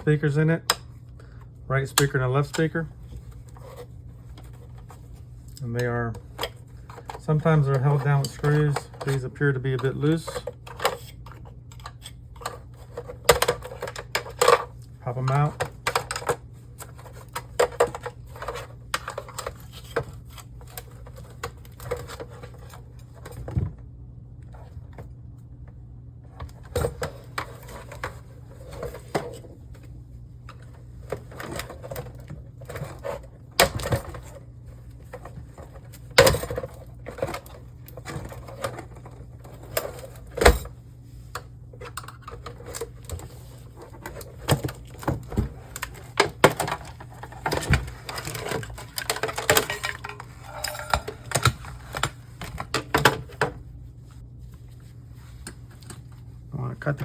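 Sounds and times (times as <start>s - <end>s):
steady low hum: 0.0s - 57.0s
plastic parts clicking and rattling: 0.1s - 23.6s, 30.5s - 40.7s, 41.4s - 53.6s.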